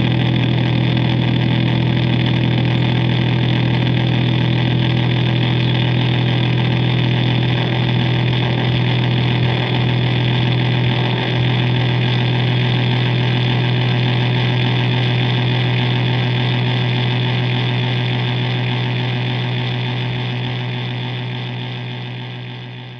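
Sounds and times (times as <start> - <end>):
distorted bass guitar drone: 0.0 - 22.9.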